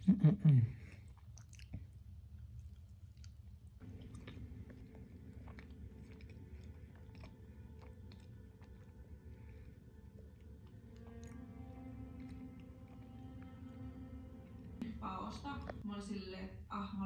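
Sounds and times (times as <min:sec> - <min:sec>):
faint low hum: 0:00.0 - 0:17.0
person chewing: 0:00.8 - 0:14.8.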